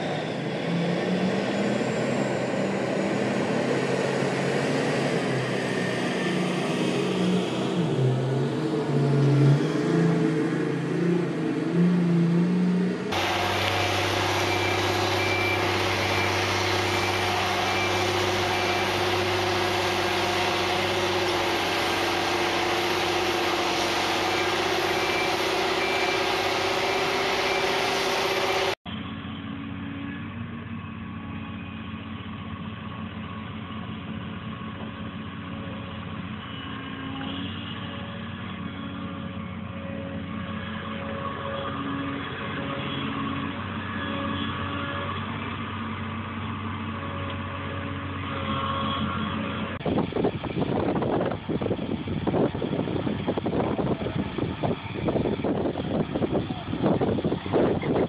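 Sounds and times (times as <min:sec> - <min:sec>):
excavator engine: 0:00.0 - 0:58.0
tracked tractor engine: 0:00.0 - 0:58.0.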